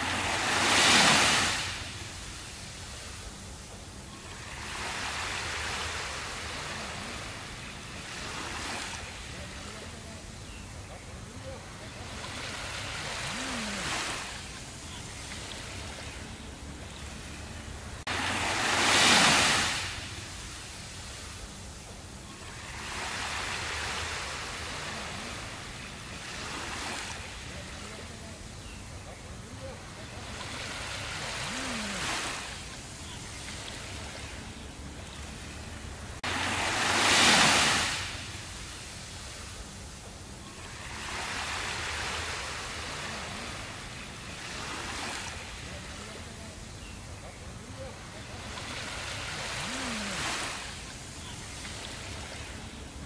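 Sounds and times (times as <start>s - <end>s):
small waves washing on sand: 0.0s - 53.0s.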